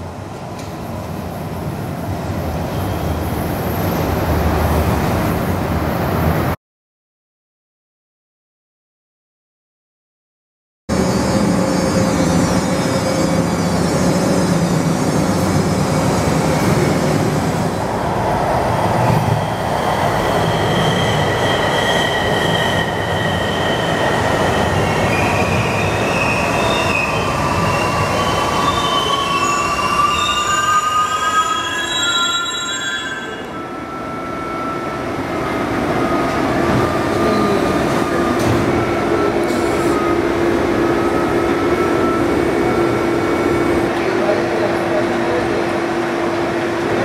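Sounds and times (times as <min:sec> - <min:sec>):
train rolling on rails: 0:00.0 - 0:06.6, 0:10.9 - 0:47.0.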